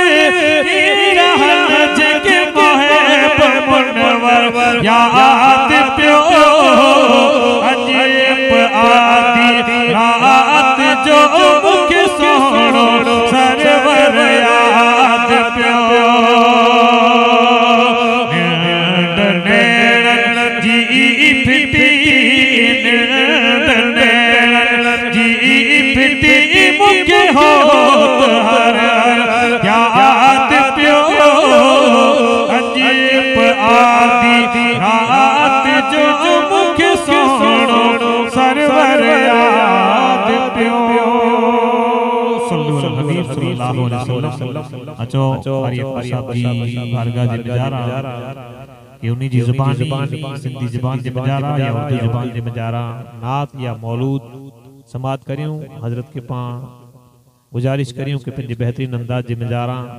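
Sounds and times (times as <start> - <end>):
man singing into a microphone: 0.0 - 56.7.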